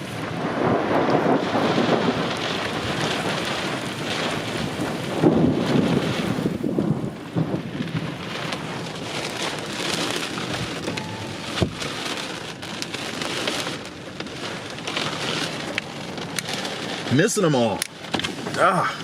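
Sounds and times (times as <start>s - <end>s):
rain falling: 0.0s - 19.0s
raindrops tapping: 0.0s - 19.0s.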